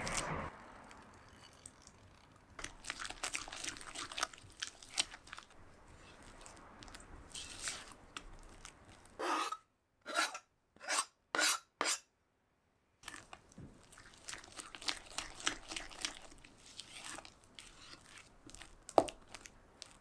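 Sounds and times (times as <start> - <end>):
rasping scrapes: 0.0 - 12.0, 14.1 - 19.6.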